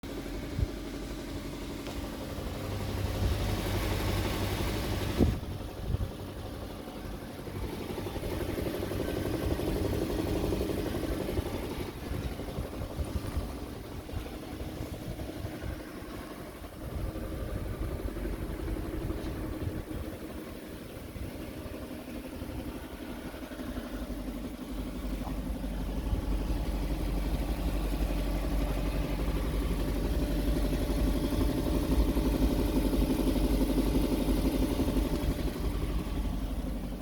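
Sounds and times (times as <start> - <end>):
car engine running: 0.0 - 37.0
engine knock: 0.0 - 37.0.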